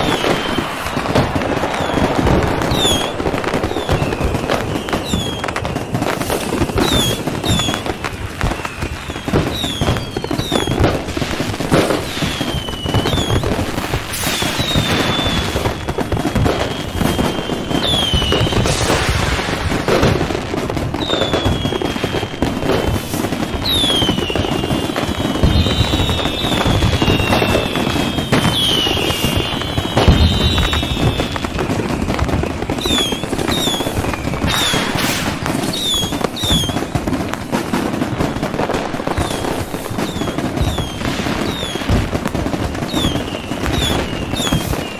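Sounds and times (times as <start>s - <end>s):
deep firework booms: 0.0s - 44.9s
firework whistles: 0.0s - 44.9s
fireworks crackling: 0.0s - 44.9s.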